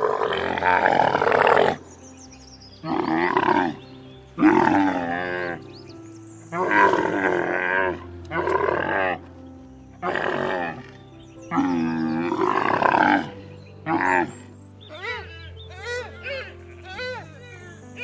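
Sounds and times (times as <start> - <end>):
camel groaning calls: 0.0 - 1.9, 2.8 - 3.8, 4.4 - 5.6, 6.5 - 9.3, 10.0 - 18.0.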